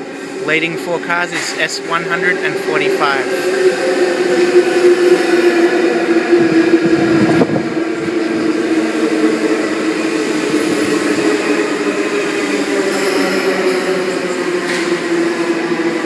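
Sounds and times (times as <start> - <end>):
electric train hum and drone: 0.0 - 16.0
train rolling noise: 0.0 - 16.0.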